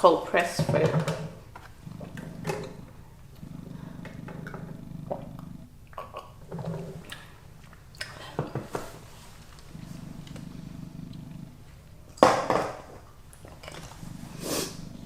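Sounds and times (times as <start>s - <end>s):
noisy eating: 0.5s - 15.0s
low hum: 0.7s - 15.0s.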